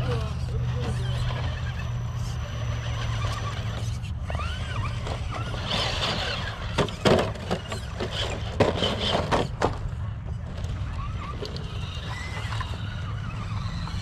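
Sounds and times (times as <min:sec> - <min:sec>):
rc truck motors whining: 0:00.0 - 0:14.0.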